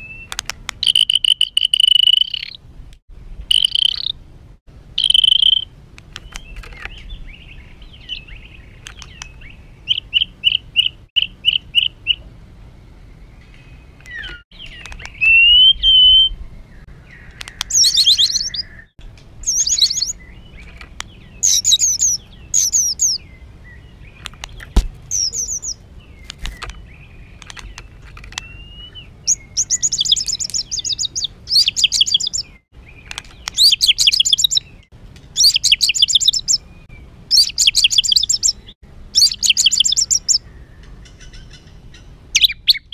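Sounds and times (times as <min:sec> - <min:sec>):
songbird harsh song: 0:00.0 - 0:04.2, 0:04.9 - 0:42.9.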